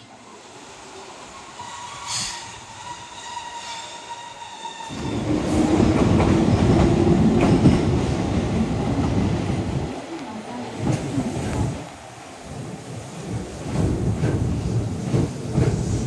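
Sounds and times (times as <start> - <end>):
train wheels rumbling on rails: 0.9 - 16.0.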